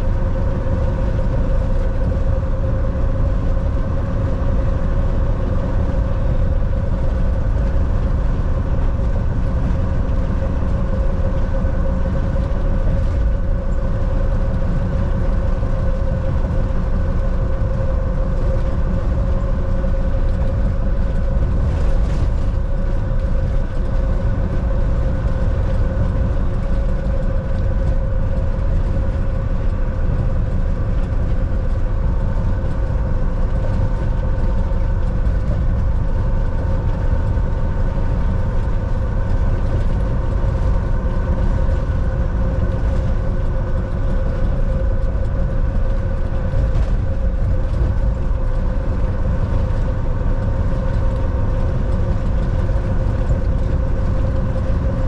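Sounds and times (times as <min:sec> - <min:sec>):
faint constant whine: 0:00.0 - 0:55.0
truck engine and tyres droning: 0:00.0 - 0:55.0.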